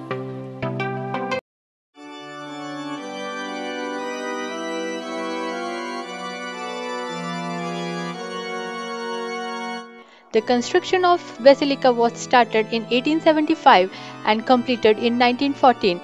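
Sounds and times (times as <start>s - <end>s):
organ playing slow chords: 2.0s - 16.0s.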